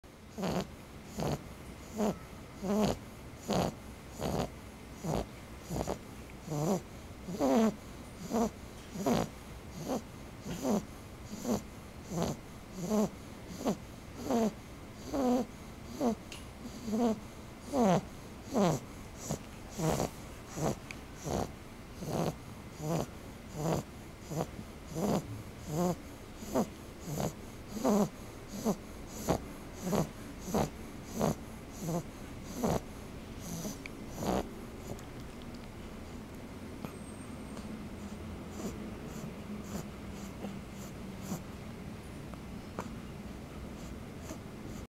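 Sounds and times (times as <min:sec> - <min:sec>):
short pitched snores: 0:00.3 - 0:35.0, 0:38.0 - 0:41.5.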